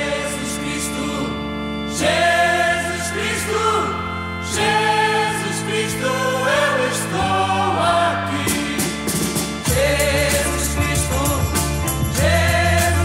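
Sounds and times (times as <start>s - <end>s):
religious singing over held chords: 0.0s - 13.0s.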